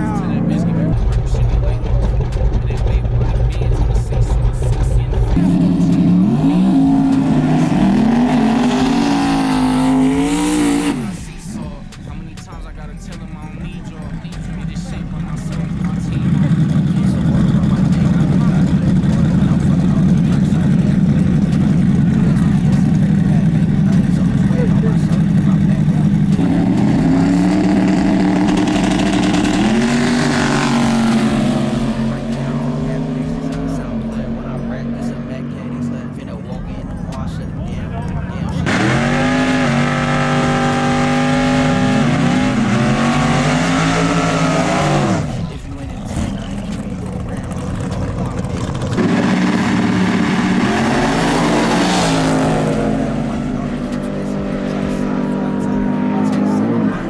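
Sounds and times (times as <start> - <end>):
truck engine at high revs: 0.0 - 57.0.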